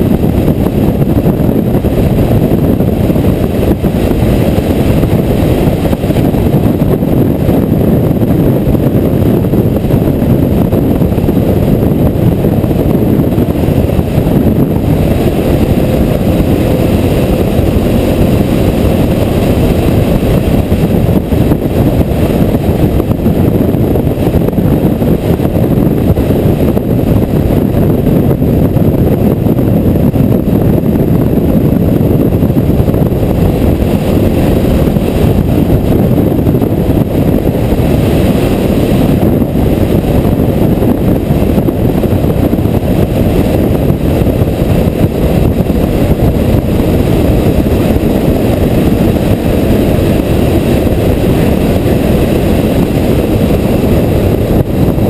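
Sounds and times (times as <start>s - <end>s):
motorcycle wind and engine rush: 0.0s - 55.0s.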